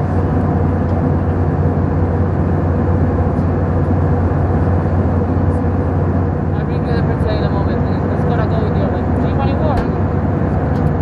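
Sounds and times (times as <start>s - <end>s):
airplane cabin airflow and engine drone: 0.0s - 11.0s.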